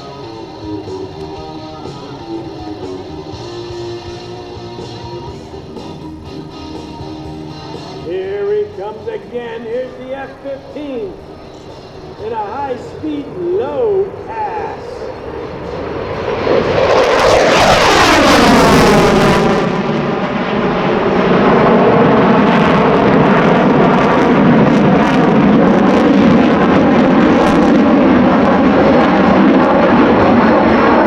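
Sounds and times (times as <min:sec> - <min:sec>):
jet engines passing: 0:00.0 - 0:31.0.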